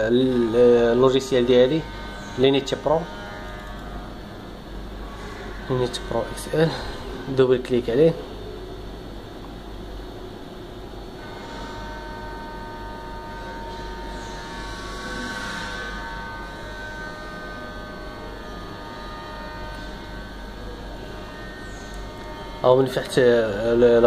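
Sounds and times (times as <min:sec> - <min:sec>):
electrical mains hum: 0:00.0 - 0:24.0
faint whining tones: 0:00.0 - 0:24.0.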